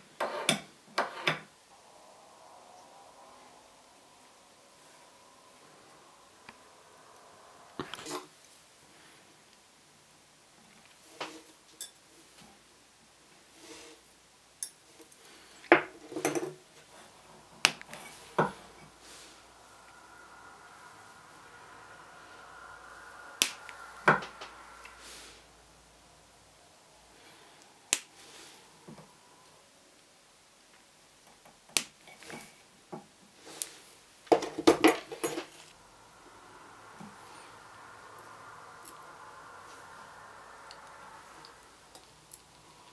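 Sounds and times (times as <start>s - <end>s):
faint steady hiss: 0.0s - 42.9s.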